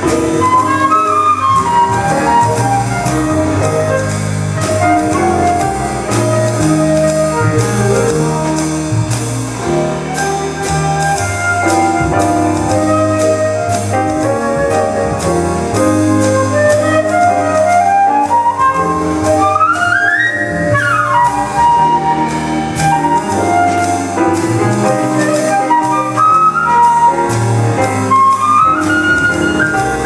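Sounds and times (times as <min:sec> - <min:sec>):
bass line: 0:00.0 - 0:30.0
live band playing: 0:00.0 - 0:30.0.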